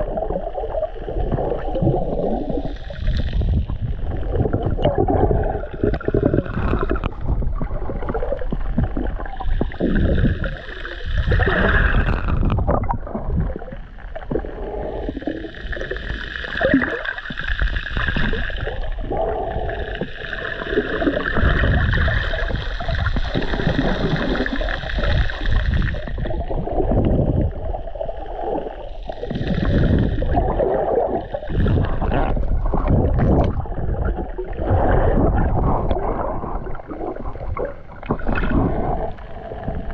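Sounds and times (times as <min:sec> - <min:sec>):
water sloshing and gurgling underwater: 0:00.0 - 0:39.9.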